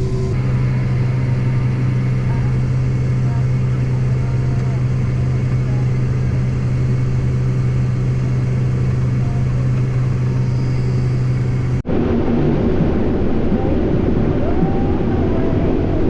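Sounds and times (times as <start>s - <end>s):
rough running machine: 0.0s - 14.4s
heavy machinery engine humming: 0.0s - 16.0s.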